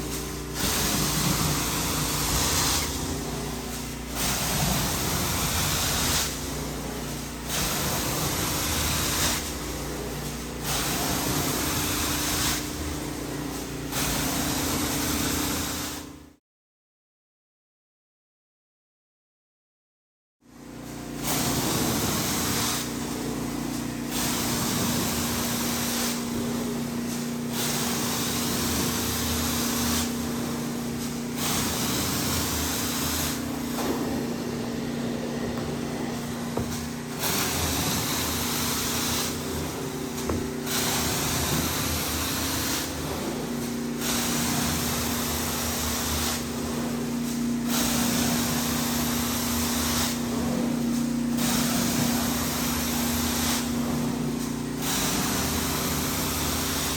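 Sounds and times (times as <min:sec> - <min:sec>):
carpet cleaning machine hum: 0:00.0 - 0:16.0, 0:20.6 - 0:56.9.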